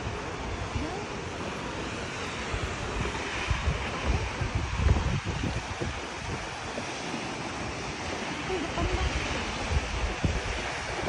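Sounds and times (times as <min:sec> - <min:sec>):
surf: 0:00.0 - 0:11.0
waterfall rushing: 0:00.0 - 0:11.0
wind buffeting microphone: 0:00.0 - 0:11.0.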